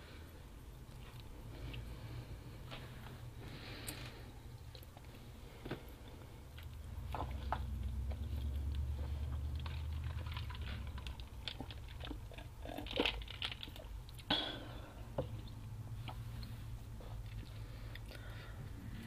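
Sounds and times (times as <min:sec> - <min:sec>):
low hum: 0:00.0 - 0:19.0
person chewing pizza: 0:00.7 - 0:19.0.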